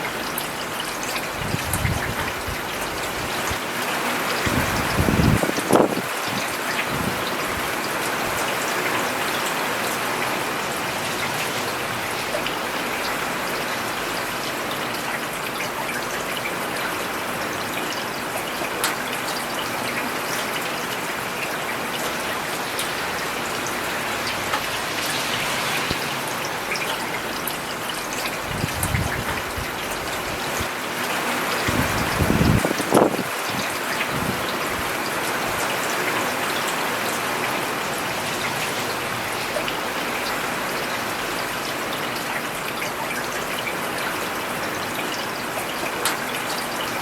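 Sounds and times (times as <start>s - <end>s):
rain falling on pavement: 0.0s - 47.0s.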